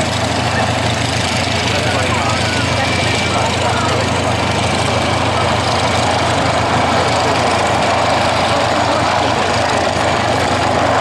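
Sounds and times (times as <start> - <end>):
helicopter flying low past: 0.0 - 11.0.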